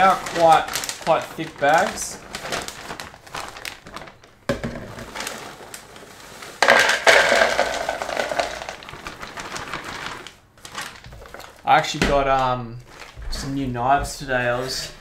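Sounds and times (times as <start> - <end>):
plastic bags crinkling: 0.0 - 13.8.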